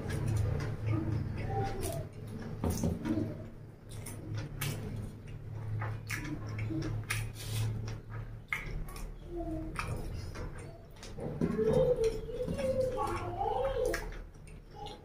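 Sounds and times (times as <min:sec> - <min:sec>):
person chewing and lip smacking: 0:00.0 - 0:15.0.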